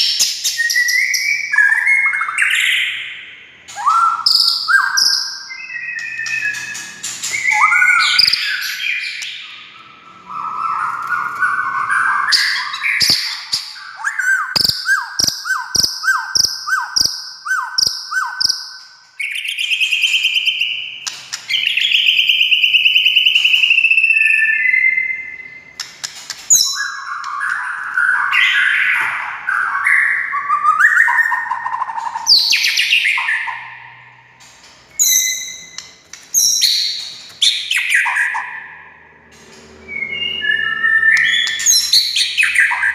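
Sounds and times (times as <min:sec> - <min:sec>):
bird singing varied song: 0:00.0 - 0:34.2, 0:34.9 - 0:42.9.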